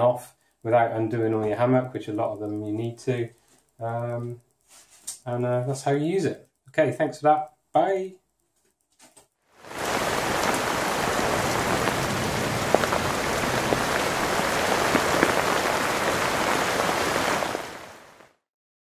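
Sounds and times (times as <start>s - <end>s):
rain-like hiss with crackles: 0.0s - 7.3s, 9.5s - 18.4s.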